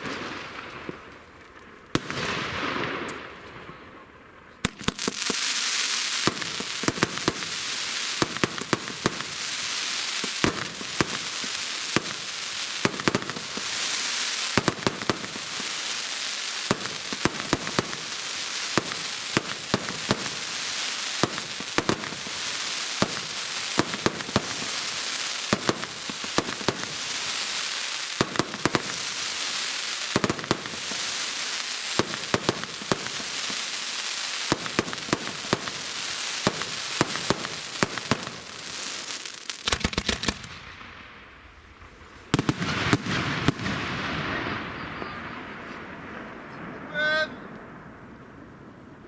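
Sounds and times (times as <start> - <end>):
fireworks bangs: 0.0 - 49.0
fireworks crackling: 0.0 - 49.0.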